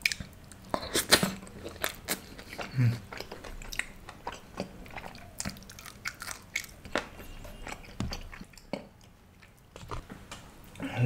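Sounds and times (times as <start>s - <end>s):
chewing food with crunches: 0.0s - 10.1s.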